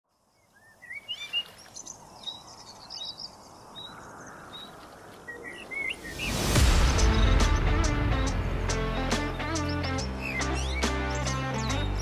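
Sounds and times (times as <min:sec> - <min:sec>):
birds chirping: 0:00.1 - 0:12.0
steady outdoor hiss: 0:00.1 - 0:12.0.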